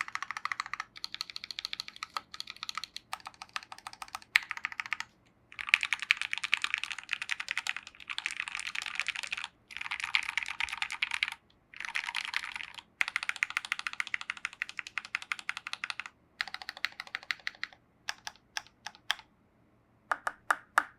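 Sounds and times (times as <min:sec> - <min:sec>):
fast typing on mechanical keyboard: 0:00.0 - 0:19.2.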